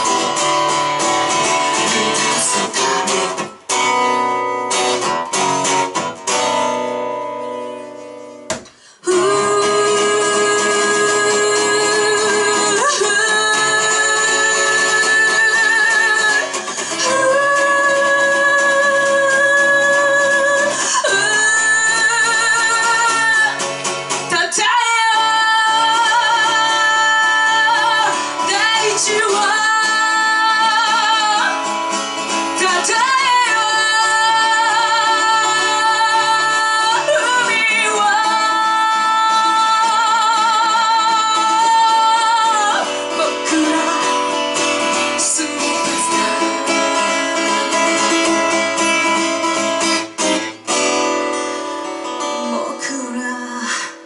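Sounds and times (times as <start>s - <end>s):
electric guitar: 0.0s - 54.0s
singer with vibrato: 1.4s - 3.3s, 8.8s - 49.2s, 52.2s - 54.0s.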